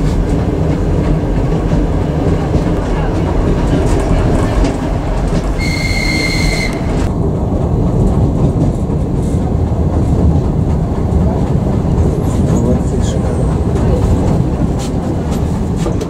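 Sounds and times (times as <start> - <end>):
train wheels on track rumbling: 0.0 - 16.0.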